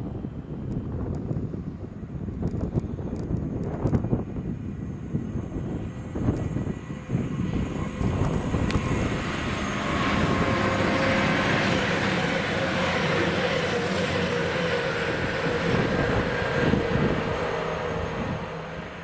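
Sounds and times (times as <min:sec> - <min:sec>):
diesel train passing: 0:00.0 - 0:19.0
steady whine: 0:03.8 - 0:19.0.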